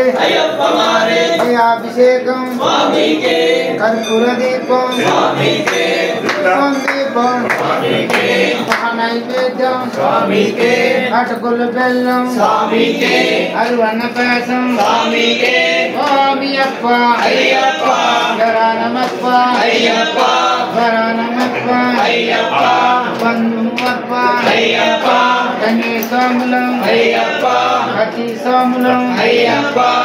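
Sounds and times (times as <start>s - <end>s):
group singing devotional song: 0.0s - 30.0s.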